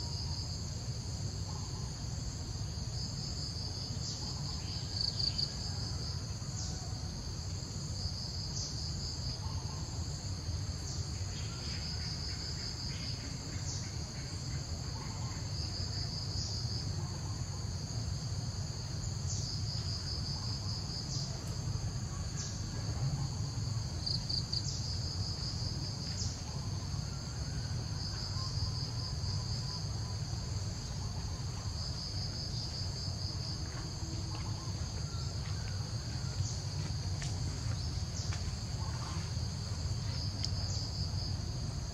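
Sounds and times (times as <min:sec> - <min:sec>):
insects trilling: 0:00.0 - 0:41.9.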